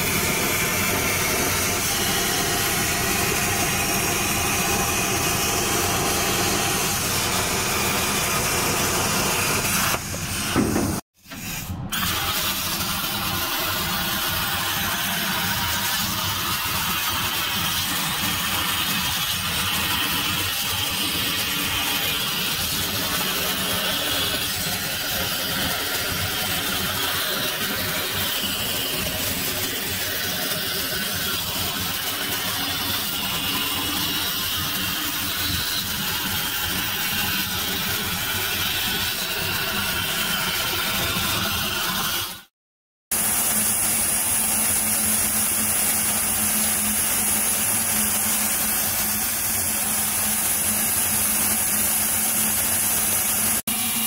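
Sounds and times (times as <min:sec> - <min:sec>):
plasma cutter hissing: 0:00.0 - 0:42.5, 0:43.1 - 0:54.0.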